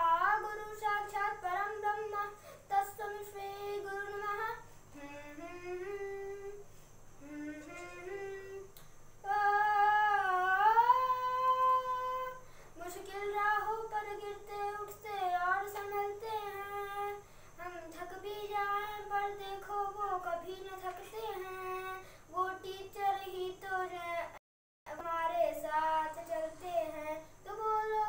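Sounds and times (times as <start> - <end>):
boy singing unaccompanied: 0.0 - 28.0.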